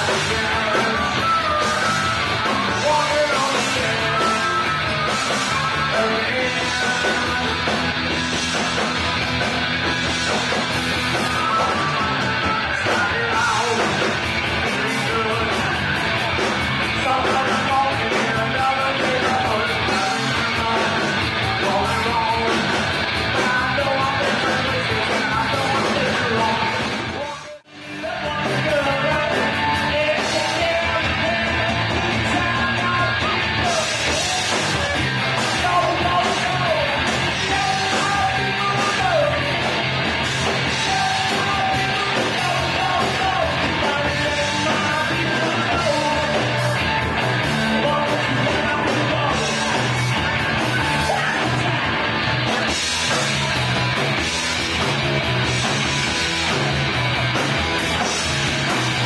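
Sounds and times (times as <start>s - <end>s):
person singing: 0.0s - 9.1s, 11.0s - 53.6s
drums: 0.0s - 59.0s
electric guitars: 0.0s - 59.0s.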